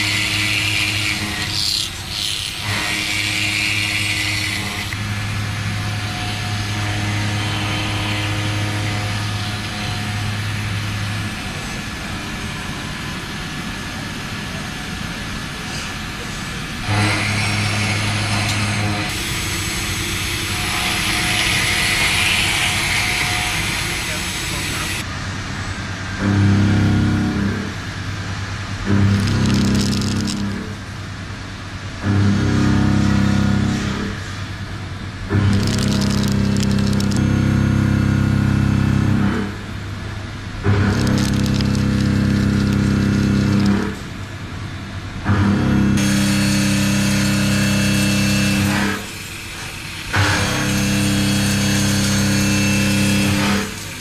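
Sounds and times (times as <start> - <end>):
hissing machine noise: 0.0 - 54.0
machinery low hum: 0.0 - 54.0.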